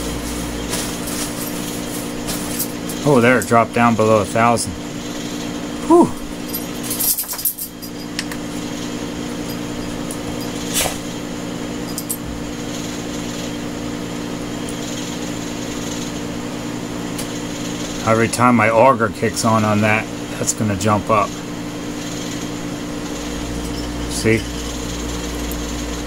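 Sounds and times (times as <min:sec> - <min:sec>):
electric blower fans humming: 0:00.0 - 0:26.0.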